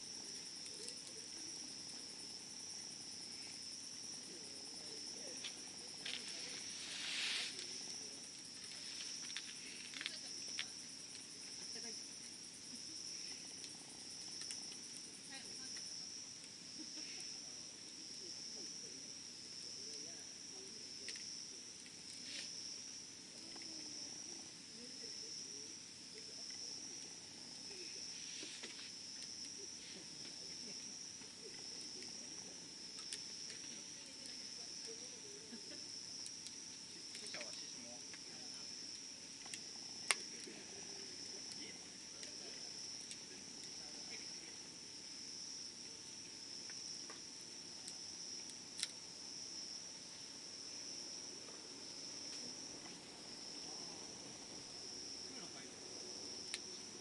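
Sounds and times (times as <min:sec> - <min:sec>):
insect trill: 0:00.0 - 0:57.0
wood fire crackling: 0:00.0 - 0:57.0.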